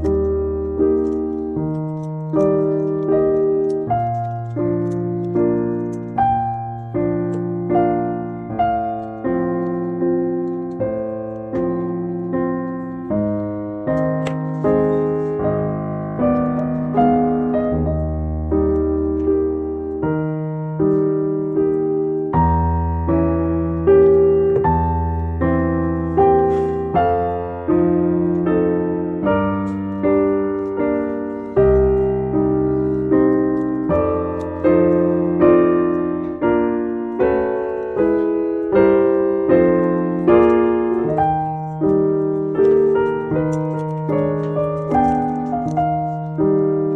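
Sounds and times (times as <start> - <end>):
soft piano chords: 0.0 - 46.9.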